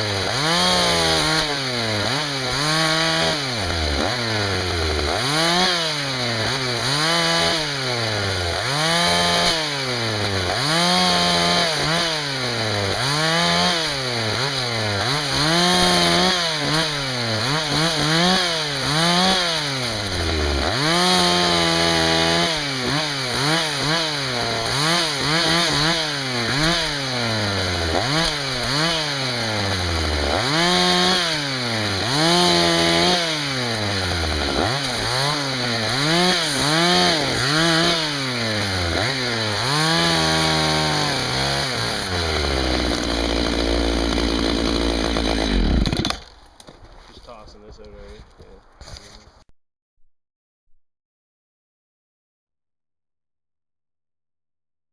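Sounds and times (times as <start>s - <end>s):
chainsaw revving while cutting wood: 0.0s - 46.3s.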